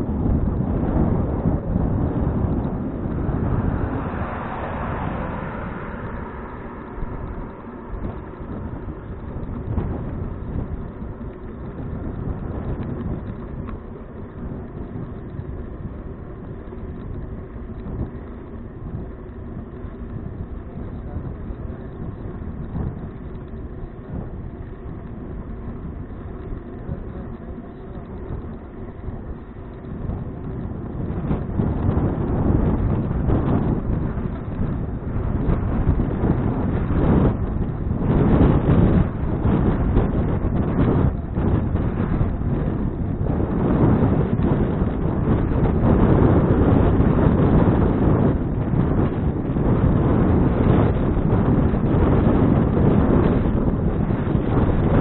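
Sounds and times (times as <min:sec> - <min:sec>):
bicycle tyre road noise: 0:00.0 - 0:55.0
wind rumbling on microphone: 0:00.0 - 0:55.0.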